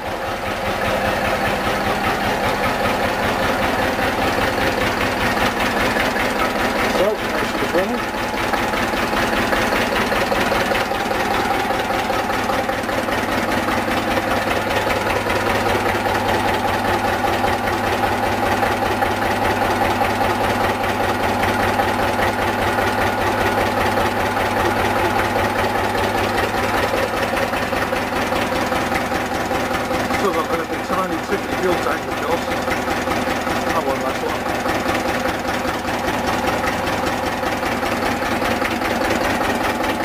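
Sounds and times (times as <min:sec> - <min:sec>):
diesel engine running steadily: 0:00.0 - 0:40.0.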